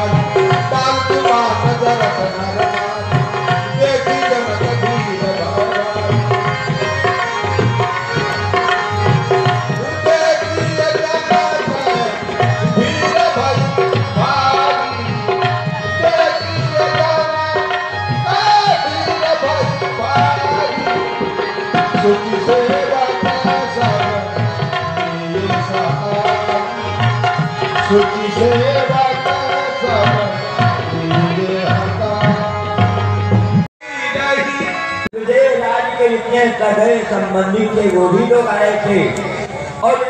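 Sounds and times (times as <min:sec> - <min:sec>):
tabla drumming: 0:00.0 - 0:39.8.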